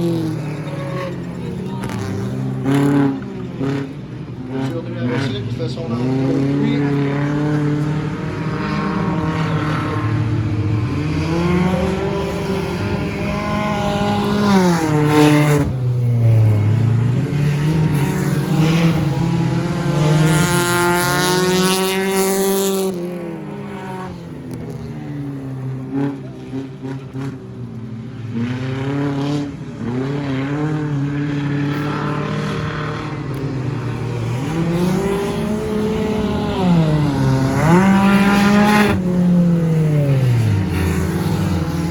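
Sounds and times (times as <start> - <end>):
stock car engines racing: 0.0 - 41.9.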